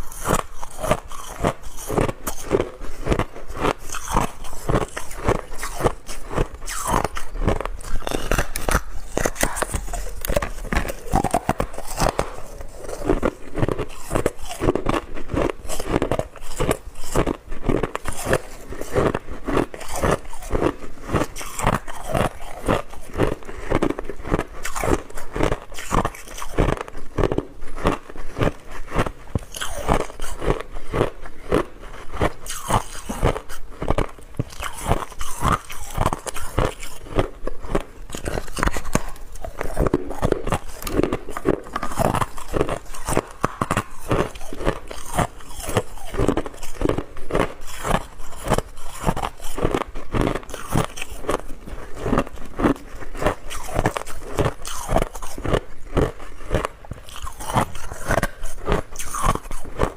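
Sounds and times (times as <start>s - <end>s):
ice crunching being chewed: 0.0s - 59.9s.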